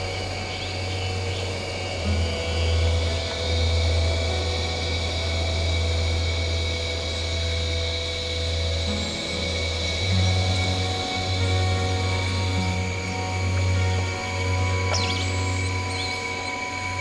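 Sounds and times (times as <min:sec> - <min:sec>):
low ambient drone: 0:00.0 - 0:17.0.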